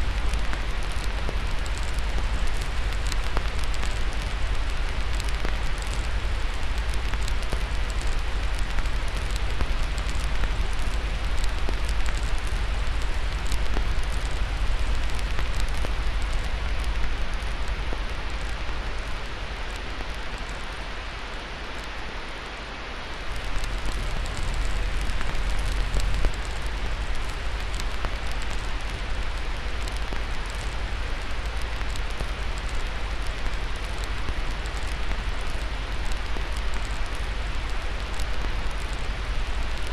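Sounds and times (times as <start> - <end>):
fire crackling and popping: 0.0 - 22.1, 23.1 - 39.9
white-noise hiss: 0.0 - 39.9.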